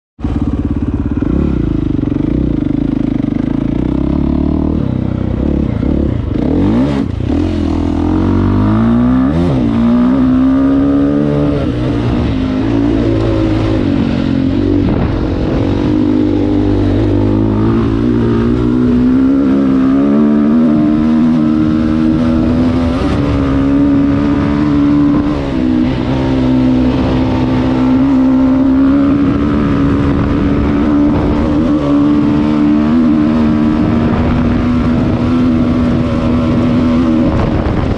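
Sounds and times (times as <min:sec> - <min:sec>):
dirt bike engine under throttle: 0:00.2 - 0:37.9.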